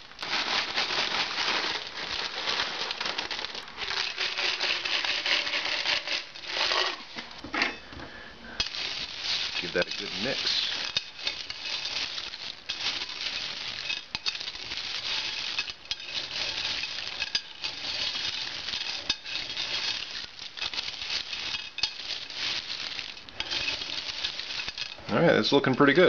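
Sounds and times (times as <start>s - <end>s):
spoon stirring dry trail mix: 0.0s - 7.3s, 8.6s - 26.0s.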